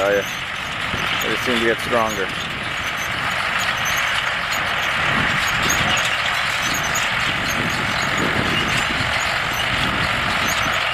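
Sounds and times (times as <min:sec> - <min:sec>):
tractors and hay baler running: 0:00.0 - 0:10.9.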